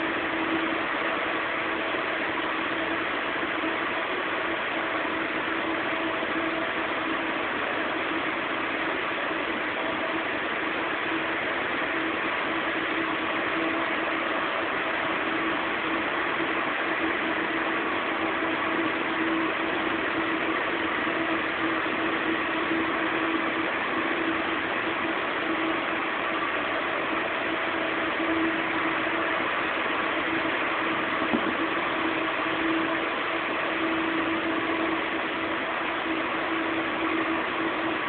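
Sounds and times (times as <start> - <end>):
ups running with hum: 0.0 - 38.0.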